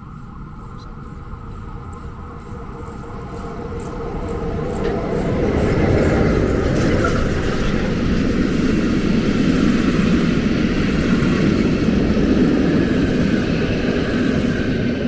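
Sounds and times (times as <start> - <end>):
steam train passing: 0.0 - 15.0.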